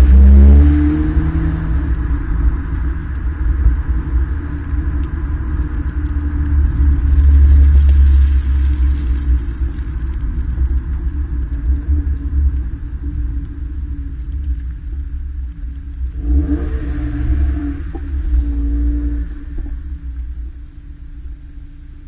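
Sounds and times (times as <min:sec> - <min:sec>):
car exhaust rumble: 0:00.0 - 0:22.0.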